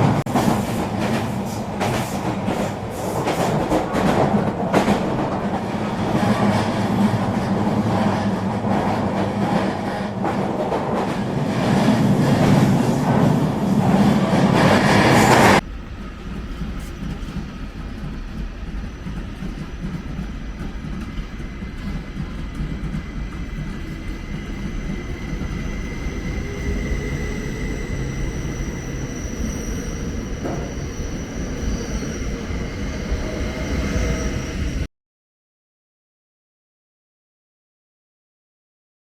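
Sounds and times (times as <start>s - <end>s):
train rail rumble: 0.0s - 34.9s.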